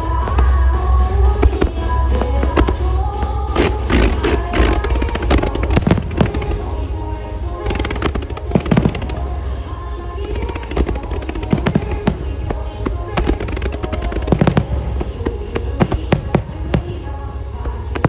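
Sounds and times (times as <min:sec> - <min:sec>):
fireworks bursting: 0:00.0 - 0:18.0
music over loudspeakers: 0:00.0 - 0:18.0.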